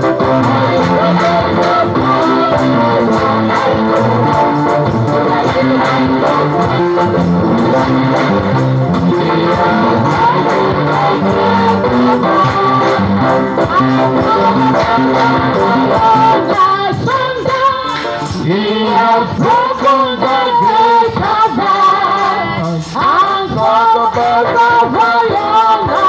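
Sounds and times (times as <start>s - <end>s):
backing music: 0.0s - 26.0s
voices singing: 0.0s - 26.0s.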